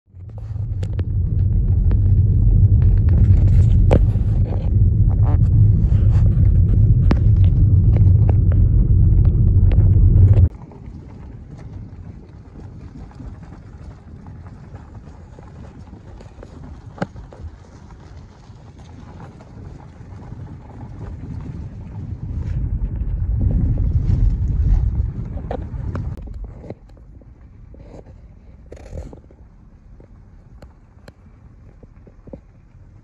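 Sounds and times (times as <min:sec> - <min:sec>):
gravel clicking and ticking: 0:00.1 - 0:33.0
tyres rumbling on dirt road: 0:00.1 - 0:33.0
wind noise on microphone: 0:00.1 - 0:33.0.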